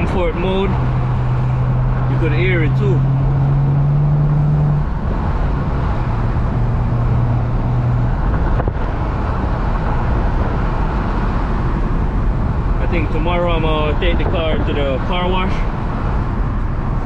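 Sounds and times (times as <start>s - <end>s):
car engine cruising: 0.0s - 17.0s
road noise: 0.0s - 17.0s.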